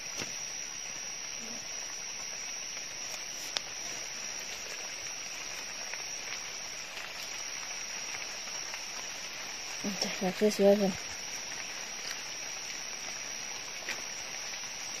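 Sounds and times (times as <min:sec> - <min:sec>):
forest insects droning: 0:00.0 - 0:15.0
soft hiss: 0:00.0 - 0:15.0
ticks of movement through dry leaves: 0:00.0 - 0:15.0.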